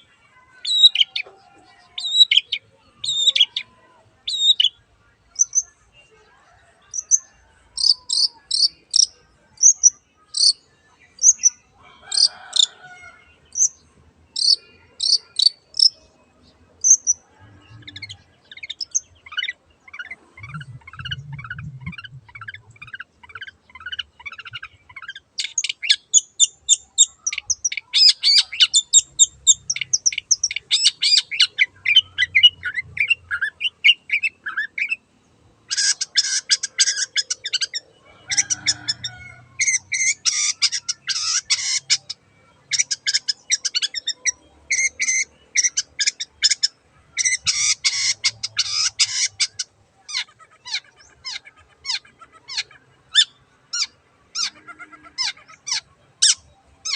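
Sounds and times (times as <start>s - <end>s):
shrike singing sharp chatter: 0.0s - 6.1s, 6.8s - 35.0s, 35.7s - 56.9s.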